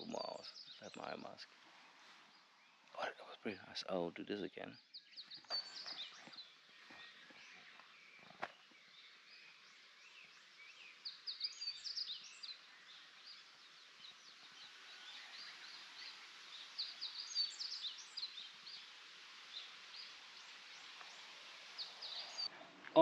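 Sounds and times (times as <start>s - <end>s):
small birds chirping: 0.0s - 23.0s
soft background hiss: 0.0s - 23.0s.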